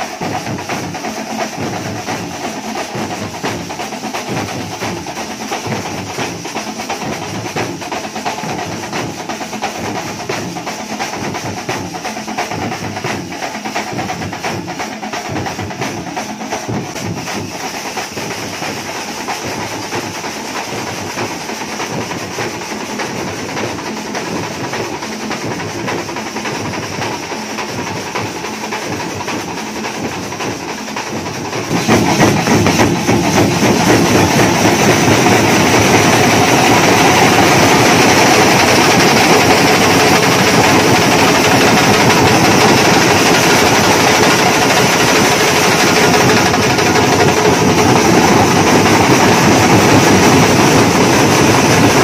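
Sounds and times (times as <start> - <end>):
drum troupe playing: 0.0 - 52.0.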